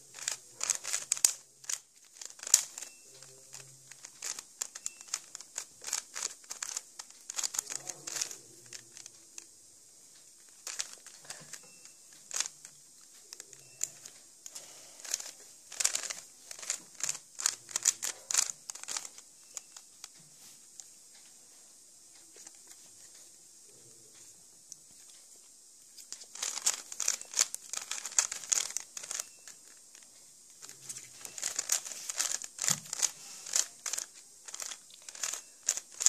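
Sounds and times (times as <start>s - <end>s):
puzzle cube clicking and scraping: 0.0s - 9.5s, 10.4s - 20.2s, 26.0s - 36.0s.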